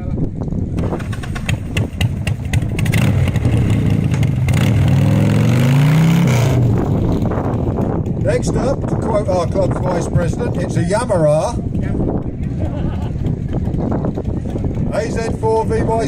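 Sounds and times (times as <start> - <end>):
motorcycle engine revving: 0.8 - 15.8.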